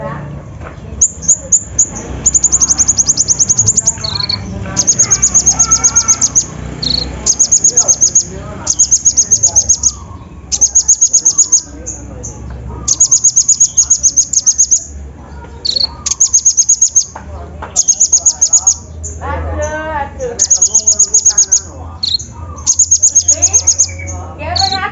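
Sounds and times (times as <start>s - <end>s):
soft bird chirps: 0.7s - 24.9s
sunbird high rapid trill: 1.0s - 17.2s, 17.8s - 19.2s, 20.1s - 24.9s.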